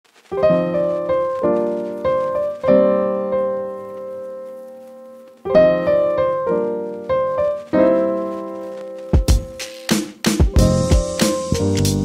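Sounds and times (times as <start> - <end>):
piano music: 0.3 - 12.0.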